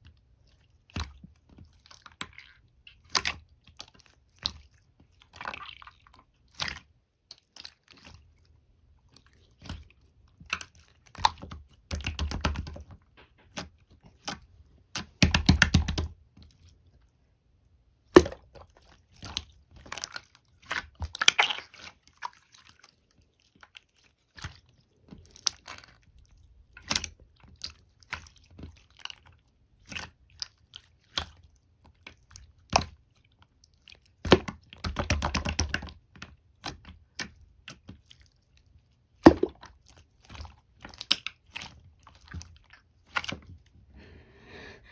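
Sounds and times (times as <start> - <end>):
wet chewing and squishing: 0.0 - 17.2, 18.2 - 43.8.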